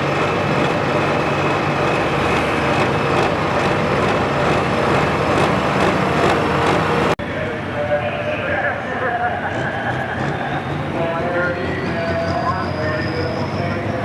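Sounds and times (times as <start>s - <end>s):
tractor diesel engine running hard: 0.0s - 14.0s.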